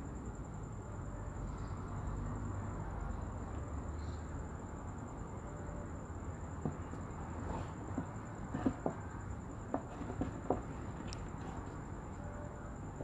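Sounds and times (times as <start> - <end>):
electric fan hum and hiss: 0.0 - 13.0.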